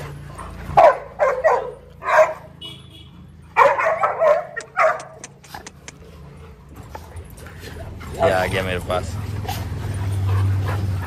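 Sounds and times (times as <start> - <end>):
dogs barking: 0.0 - 2.6, 3.3 - 11.0.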